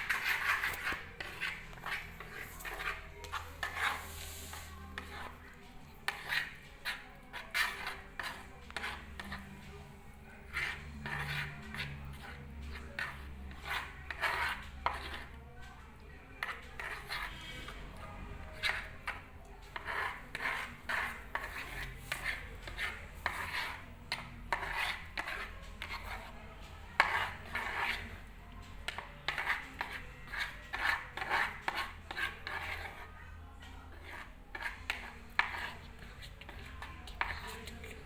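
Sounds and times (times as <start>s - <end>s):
spoon stirring slime in bowl: 0.0s - 38.0s.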